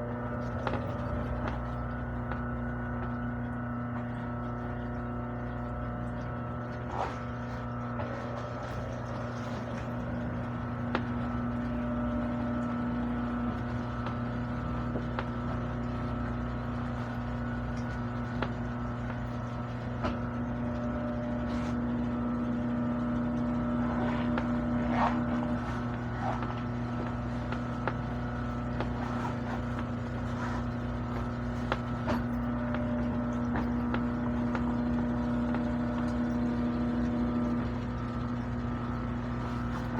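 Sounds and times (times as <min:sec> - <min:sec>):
sewing machine motor humming: 0:06.8 - 0:39.9.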